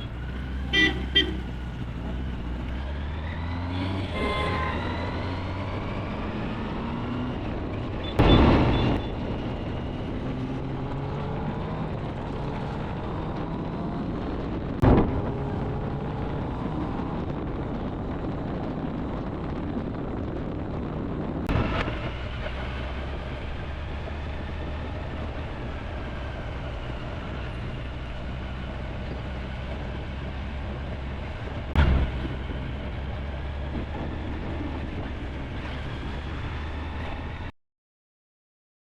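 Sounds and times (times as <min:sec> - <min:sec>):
motorcycle engine drone: 0:00.0 - 0:37.5
wind rushing over microphone: 0:01.7 - 0:37.5.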